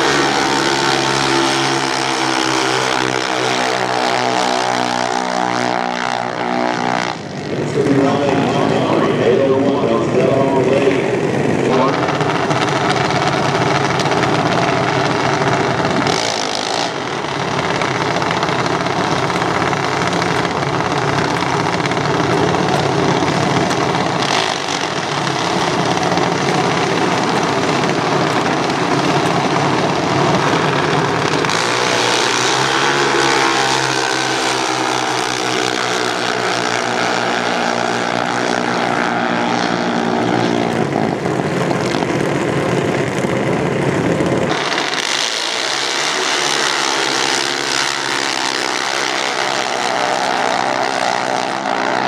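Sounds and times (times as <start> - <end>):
small engines running: 0.0 - 52.0
steady pitched engine note: 0.0 - 52.0.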